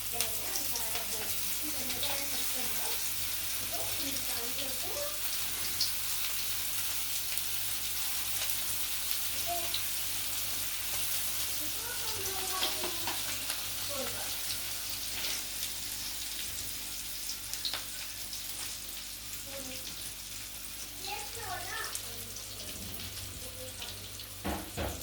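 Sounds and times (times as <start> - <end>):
patties sizzling in frying: 0.0 - 25.0.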